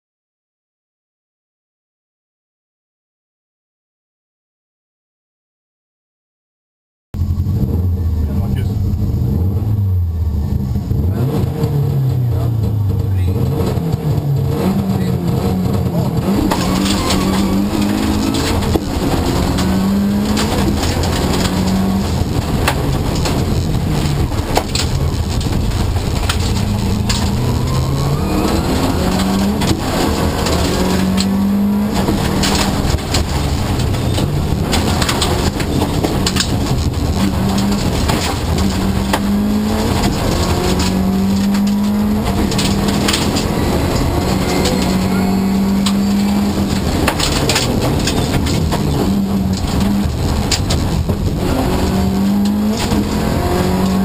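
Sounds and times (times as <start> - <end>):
rally car engine revving: 7.2 - 54.0.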